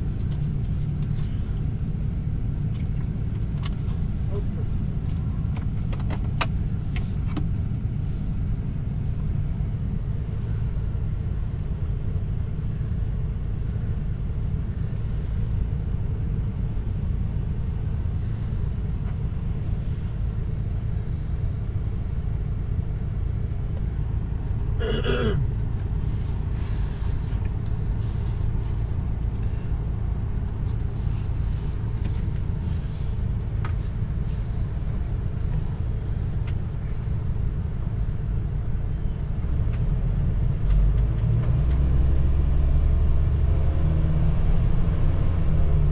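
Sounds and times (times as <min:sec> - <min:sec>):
engine idling low rumble: 0:00.0 - 0:45.9.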